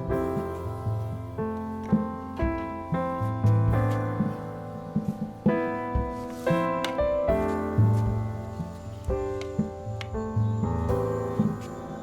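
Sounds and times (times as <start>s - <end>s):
keyboard background music: 0.0s - 12.0s.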